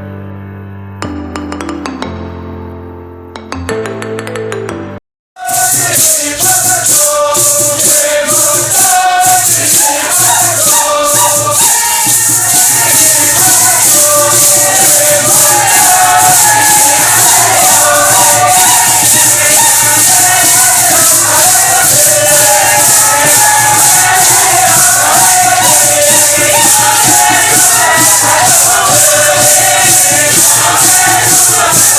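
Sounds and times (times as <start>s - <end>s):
group singing a chant: 5.4s - 31.9s
maracas shaking: 5.4s - 31.9s.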